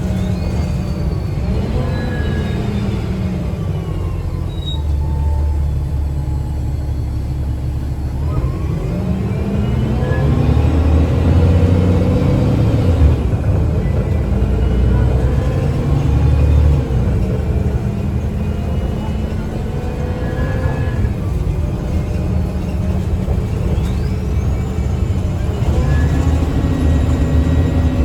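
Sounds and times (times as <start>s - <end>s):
bus engine rumble: 0.0s - 28.0s
transmission whine: 0.0s - 28.0s.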